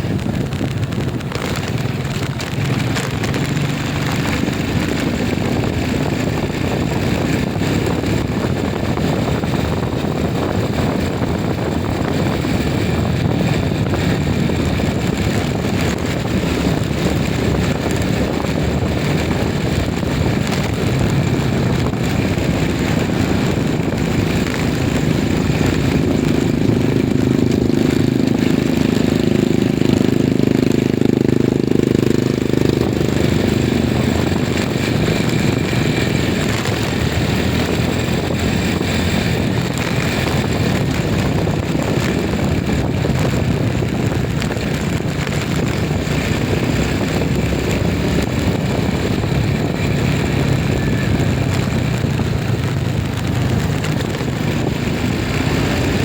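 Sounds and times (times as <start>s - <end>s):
road noise: 0.0s - 56.0s
vehicle engine running: 0.0s - 56.0s
wind: 0.0s - 56.0s.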